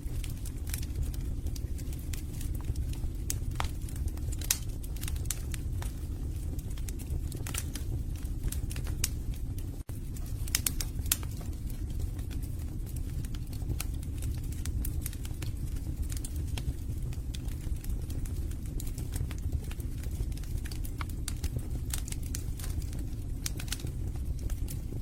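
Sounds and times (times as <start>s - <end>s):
low rumble of flames: 0.0s - 25.0s
crackling and popping logs: 0.1s - 25.0s.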